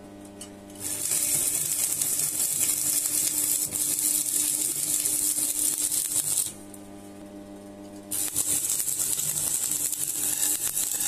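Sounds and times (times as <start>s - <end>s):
arc welding crackling and sizzling: 0.1s - 11.0s.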